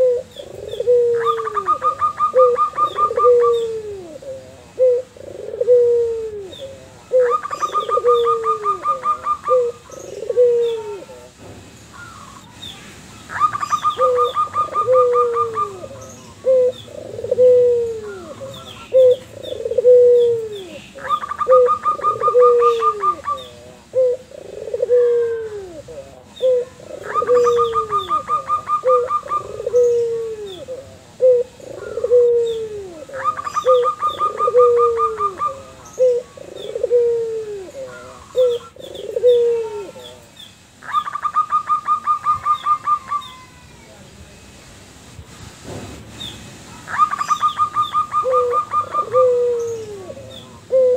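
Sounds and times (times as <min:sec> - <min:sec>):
low falling dove coos: 0:00.0 - 0:11.4, 0:13.3 - 0:43.6, 0:46.8 - 0:50.9.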